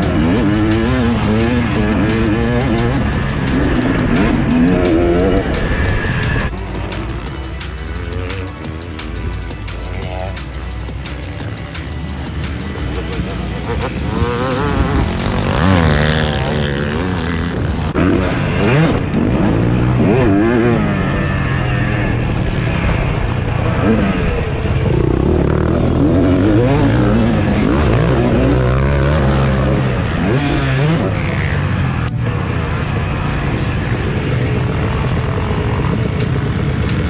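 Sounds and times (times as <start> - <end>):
motocross bike engine revving: 0.0 - 37.0.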